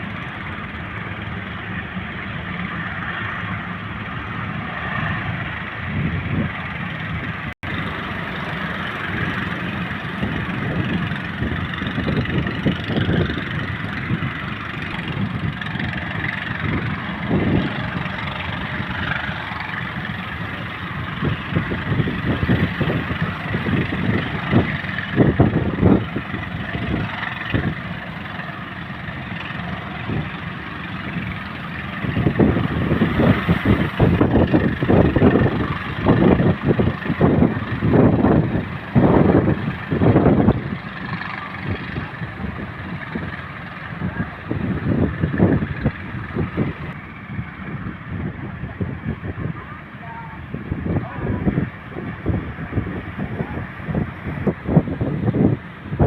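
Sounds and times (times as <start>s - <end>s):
wind buffeting microphone: 0.0s - 56.0s
ocean surf rushing: 0.8s - 56.0s.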